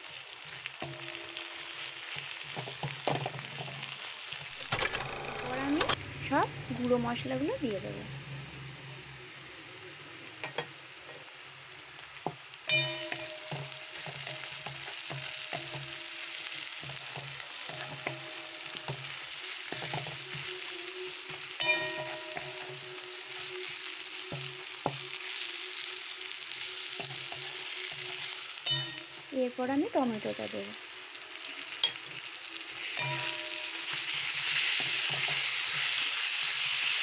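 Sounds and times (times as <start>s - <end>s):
onions sizzling in hot oil: 0.0s - 4.7s, 5.4s - 37.0s.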